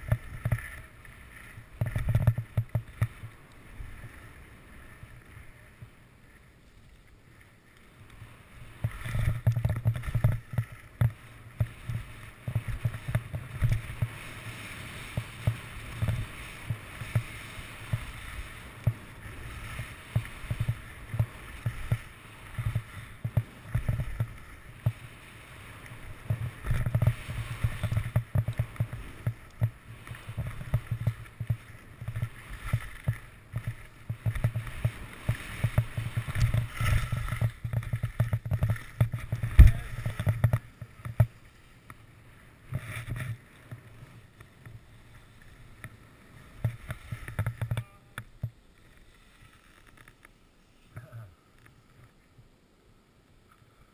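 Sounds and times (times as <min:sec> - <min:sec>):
skis thumping over bumps: 0:00.0 - 0:52.1
skis scraping over snow: 0:00.0 - 0:52.4.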